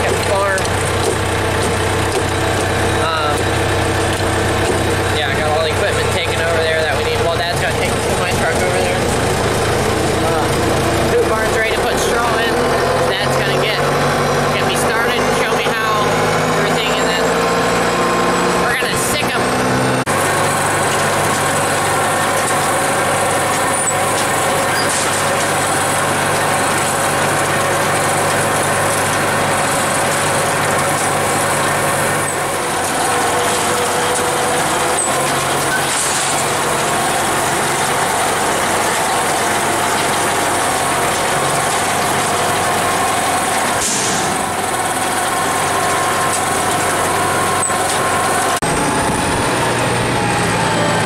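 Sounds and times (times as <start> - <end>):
baler machine drone: 0.0 - 51.0
tractor engine hum: 0.0 - 51.0.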